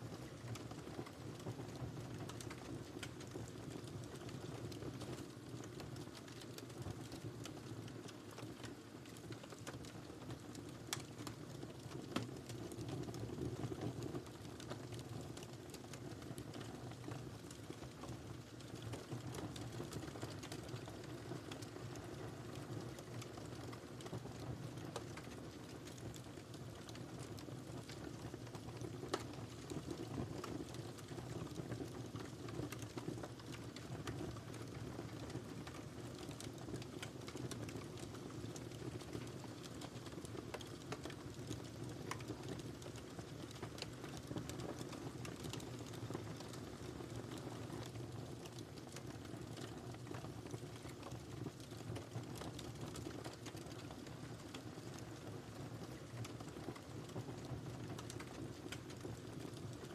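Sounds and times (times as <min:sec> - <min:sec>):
fire crackling: 0:00.2 - 0:59.8
low rumble of flames: 0:00.2 - 0:59.9.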